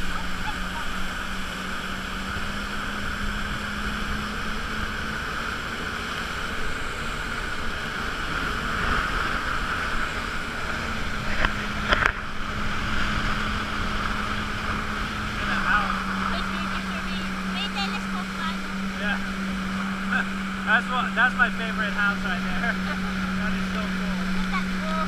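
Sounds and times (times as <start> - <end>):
jet ski engine humming: 0.0 - 25.0
water rushing against hull: 0.0 - 25.0.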